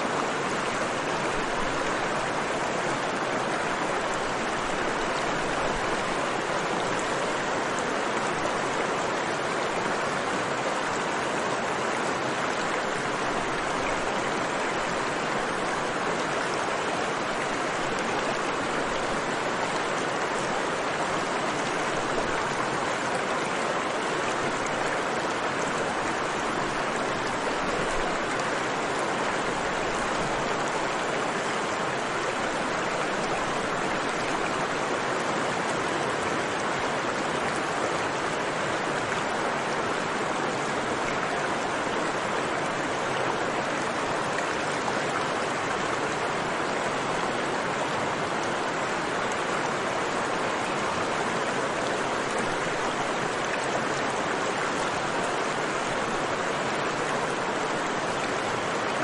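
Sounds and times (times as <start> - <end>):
river rushing: 0.0 - 59.0.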